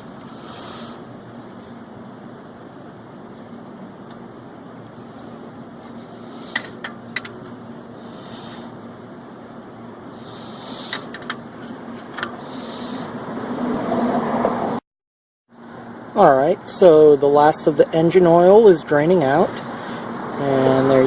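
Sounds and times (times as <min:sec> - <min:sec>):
steady background hum: 0:00.0 - 0:14.8, 0:15.5 - 0:21.0.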